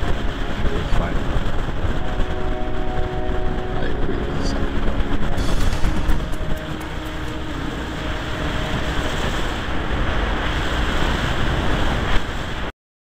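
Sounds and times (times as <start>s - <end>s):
motorbike engine drone: 0.0s - 12.1s
wind noise on microphone: 0.0s - 12.7s.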